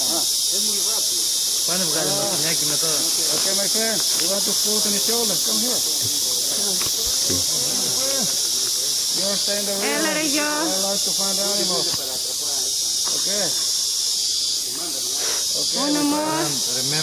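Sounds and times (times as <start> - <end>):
low voices talking: 0.0 - 13.6
insects chorus: 0.0 - 17.0.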